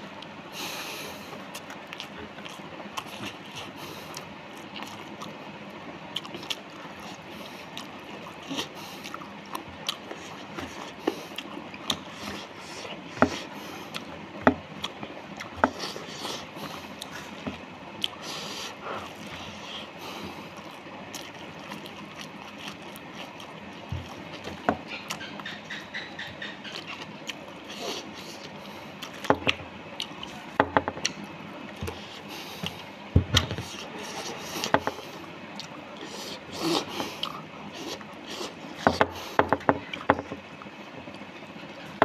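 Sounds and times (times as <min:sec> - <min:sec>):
steady background hiss: 0:00.0 - 0:42.0
person chewing rice: 0:00.2 - 0:42.0.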